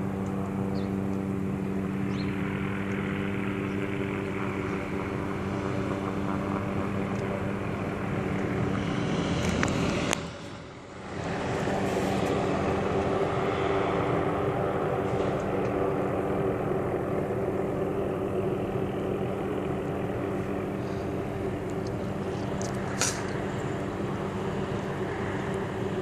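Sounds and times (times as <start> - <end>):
helicopter hovering: 0.0 - 26.0.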